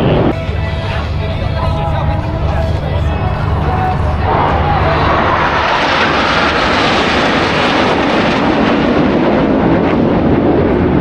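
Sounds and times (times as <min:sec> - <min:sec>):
jet aircraft flying overhead: 0:00.0 - 0:11.0.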